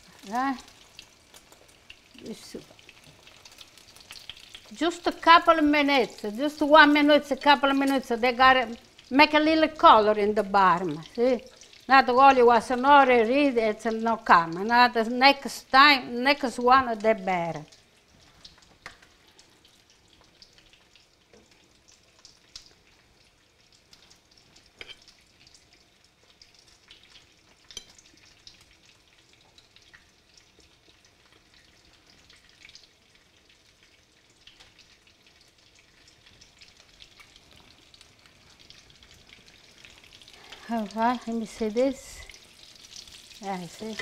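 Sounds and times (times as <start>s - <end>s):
chicken frying in oil: 0.0s - 44.0s.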